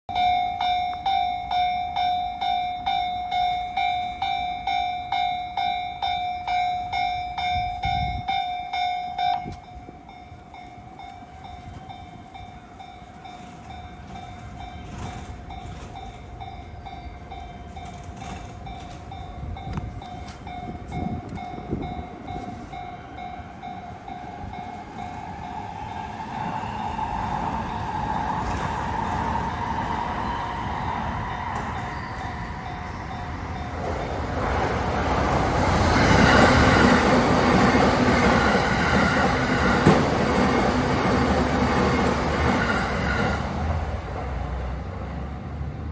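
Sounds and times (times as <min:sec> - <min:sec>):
train running noise: 0:00.1 - 0:45.9.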